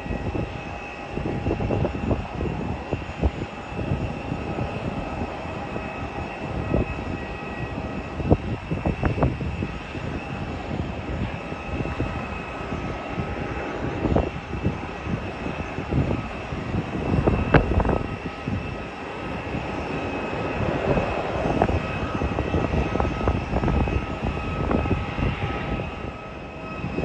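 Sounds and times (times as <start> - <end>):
jet engines whining: 0.0 - 27.0
wind buffeting microphone: 0.0 - 27.0.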